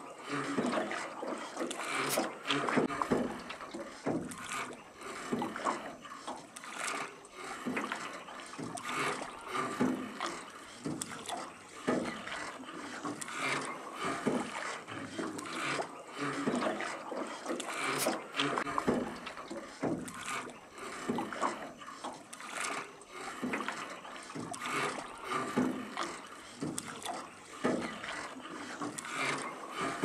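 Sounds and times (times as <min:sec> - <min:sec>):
oars splashing in water: 0:00.0 - 0:30.0.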